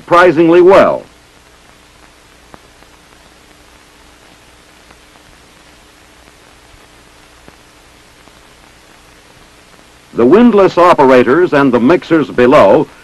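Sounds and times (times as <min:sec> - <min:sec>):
faint steady hum: 0:00.0 - 0:13.0
film soundtrack hiss: 0:00.0 - 0:13.0.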